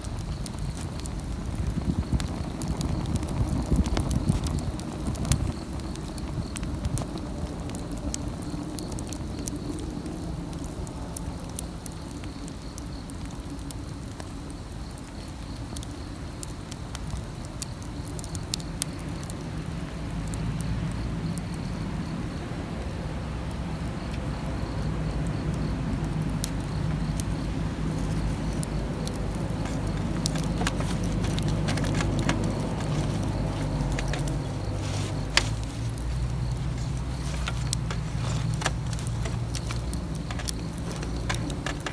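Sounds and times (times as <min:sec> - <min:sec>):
campfire crackles and pops: 0:00.0 - 0:41.9
low fire rumble: 0:00.0 - 0:41.9.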